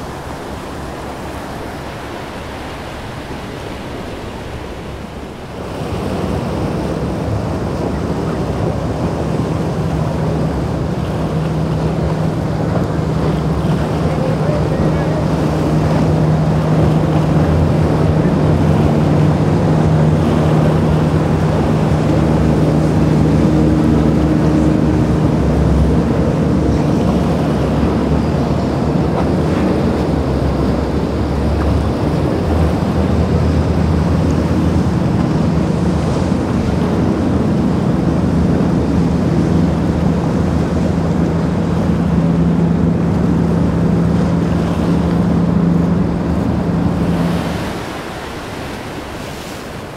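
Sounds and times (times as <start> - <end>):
hull washing through waves: 0.0 - 49.9
outboard motors droning: 0.0 - 49.9
wind buffeting microphone: 0.0 - 49.9.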